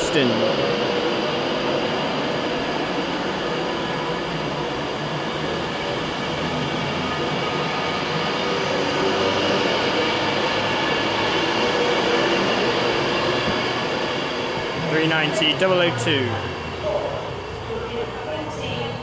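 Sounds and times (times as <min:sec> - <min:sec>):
electric train passing on rails: 0:00.0 - 0:19.0.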